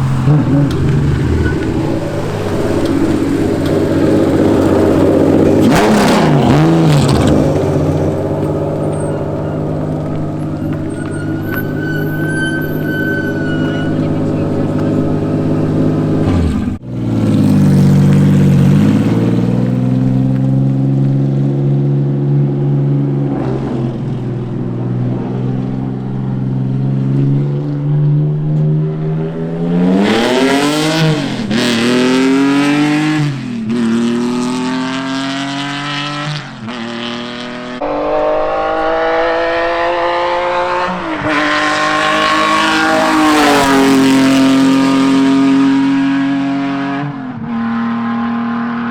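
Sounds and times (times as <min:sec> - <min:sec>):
race car engine shifting gears: 0:00.0 - 0:48.9.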